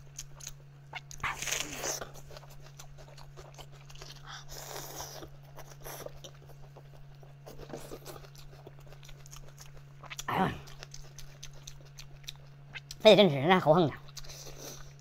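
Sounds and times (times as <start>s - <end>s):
person chewing with wet smacks: 0.0s - 13.0s, 14.0s - 15.0s.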